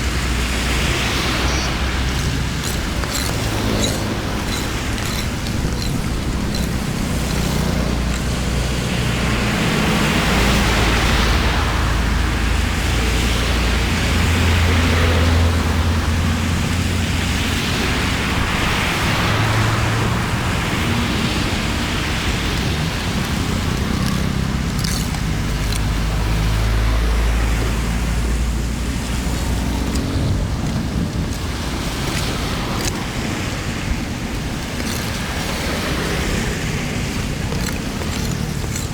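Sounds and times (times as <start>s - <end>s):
floodwater rushing: 0.0s - 38.9s.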